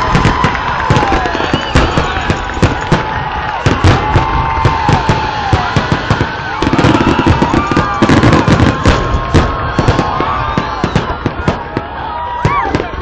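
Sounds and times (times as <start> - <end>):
fireworks bangs and crackles: 0.0 - 13.0
whistling fireworks: 0.0 - 13.0.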